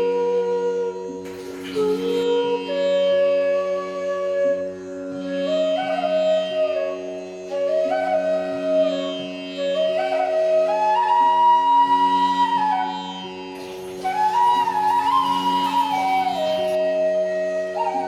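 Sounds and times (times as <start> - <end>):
sliding flute melody: 0.0 - 18.0.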